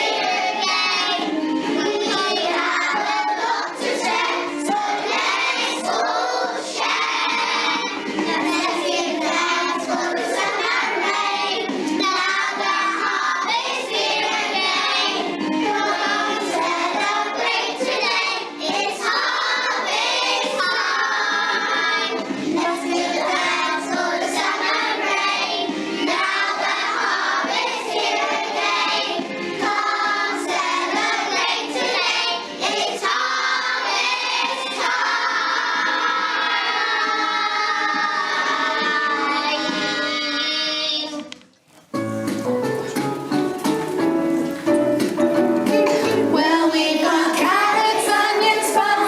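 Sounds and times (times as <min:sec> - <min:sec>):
children's choir singing: 0:00.0 - 0:41.4, 0:42.1 - 0:49.0
musical accompaniment: 0:00.0 - 0:49.0.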